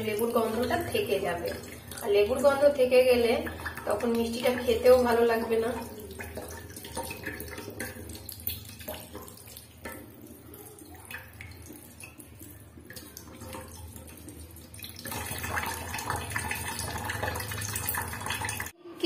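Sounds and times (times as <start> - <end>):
tap water running: 0.0 - 18.8
water splashing in steel bowl: 0.0 - 18.8.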